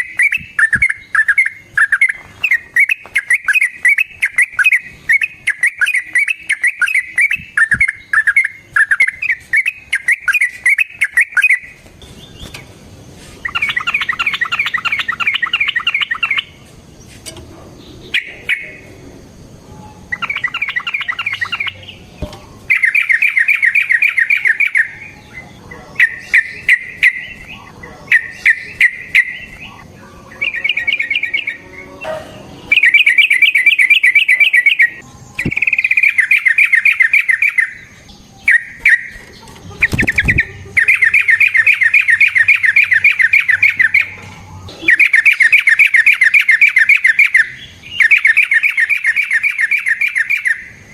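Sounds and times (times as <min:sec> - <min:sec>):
bird singing bubbling notes: 0:00.0 - 0:11.7, 0:13.4 - 0:16.6, 0:20.1 - 0:25.4, 0:26.0 - 0:39.2, 0:39.8 - 0:50.7.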